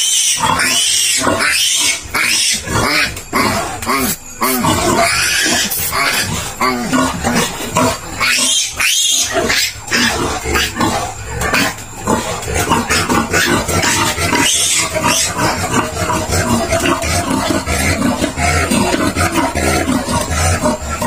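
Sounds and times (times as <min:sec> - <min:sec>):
piglet squealing: 0:00.0 - 0:07.5, 0:08.2 - 0:10.9, 0:12.7 - 0:20.8.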